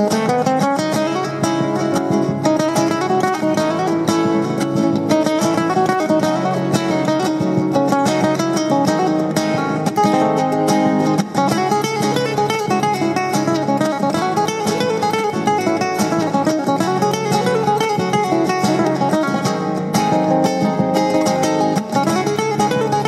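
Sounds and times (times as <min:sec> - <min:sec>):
acoustic guitar plucking: 0:00.0 - 0:23.0.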